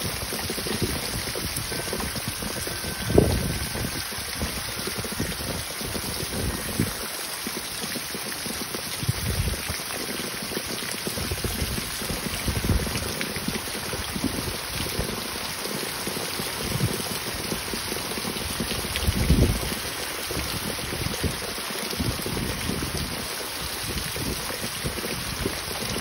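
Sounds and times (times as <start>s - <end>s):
wind gusts on microphone: 0.0s - 7.2s, 8.9s - 9.8s, 11.1s - 15.6s, 16.5s - 26.0s
heavy rain pouring: 0.0s - 26.0s.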